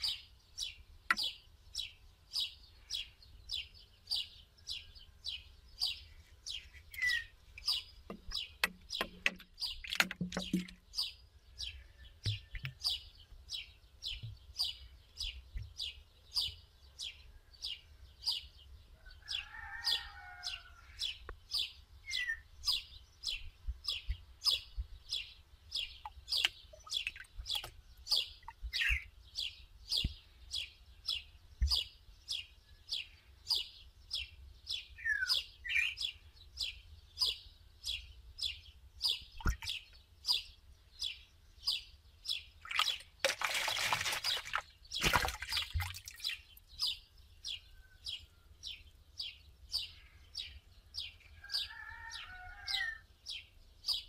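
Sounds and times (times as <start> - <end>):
small bird chirping: 0.0 - 19.8, 20.6 - 54.0.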